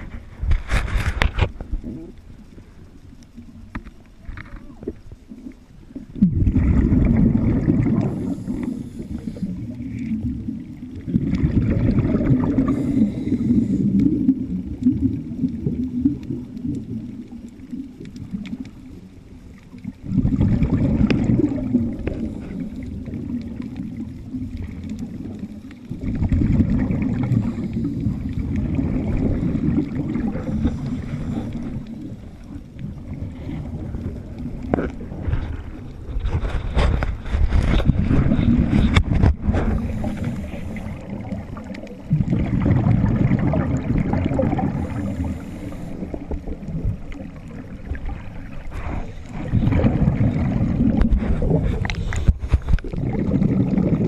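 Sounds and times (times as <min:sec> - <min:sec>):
diver's exhaled bubbles underwater: 0:04.6 - 0:54.0.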